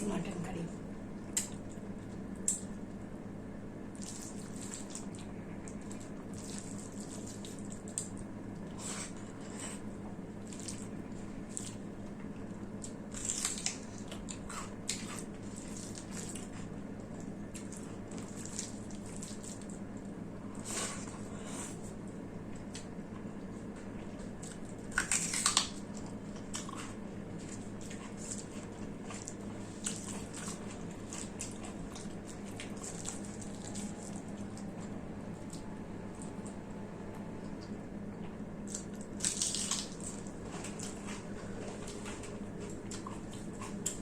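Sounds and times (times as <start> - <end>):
steady low hum: 0.0 - 44.0
wet chewing: 1.2 - 2.9, 3.8 - 37.8, 38.6 - 44.0.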